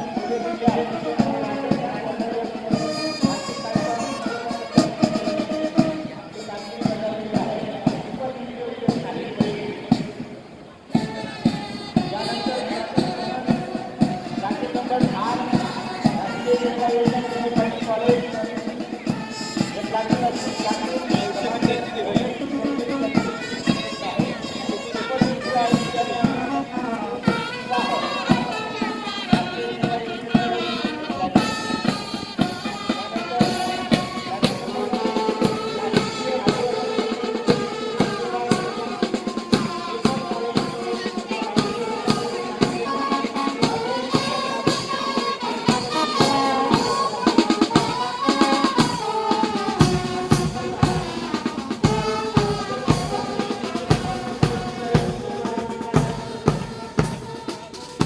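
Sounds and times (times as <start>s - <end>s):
bass and snare drums beat: 0.0s - 8.3s, 8.9s - 58.0s
brass band playing a march: 0.0s - 58.0s.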